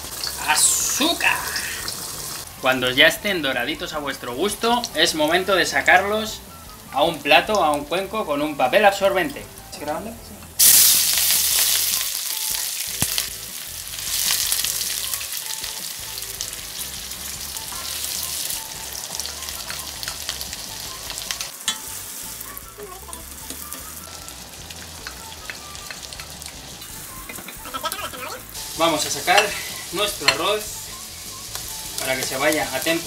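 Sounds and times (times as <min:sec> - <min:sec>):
onion sizzling in hot oil: 0:00.0 - 0:33.0.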